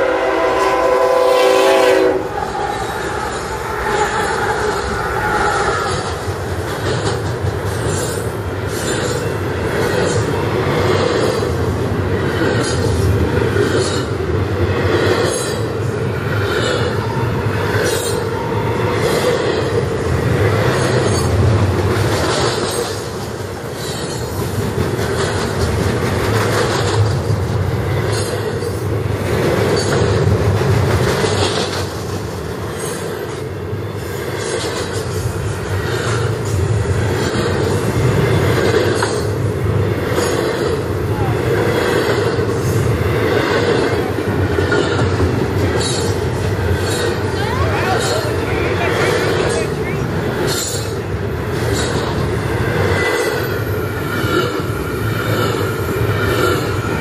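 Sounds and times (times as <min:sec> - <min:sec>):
train wheels rumbling on rail: 0:00.0 - 0:57.0
wheels clacking over rail joints: 0:02.7 - 0:57.0.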